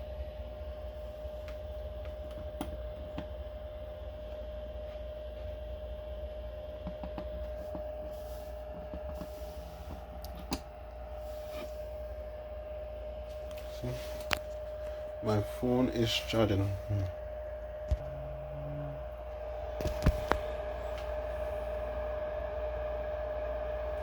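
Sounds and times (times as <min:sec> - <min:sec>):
steady whine and low hum: 0:00.0 - 0:24.0.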